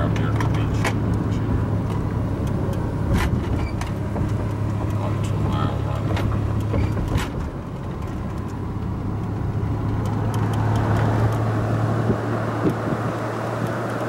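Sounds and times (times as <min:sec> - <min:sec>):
road and wind noise: 0:00.0 - 0:14.0
vehicle engine drone: 0:00.0 - 0:14.0.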